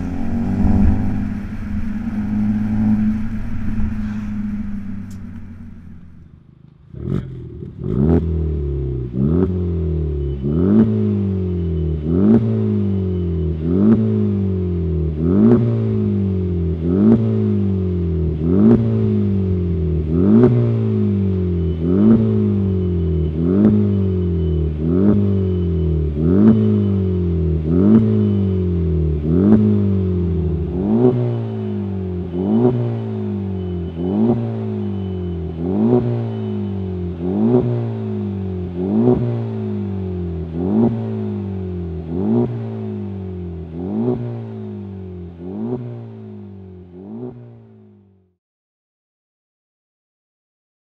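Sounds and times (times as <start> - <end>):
car engine revving: 0.0 - 47.6.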